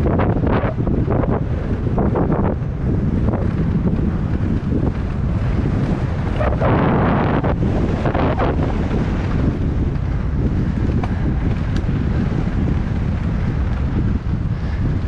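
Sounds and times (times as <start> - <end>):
bike tyres rushing on dirt trail: 0.0 - 15.0
wind buffeting microphone: 0.0 - 15.0.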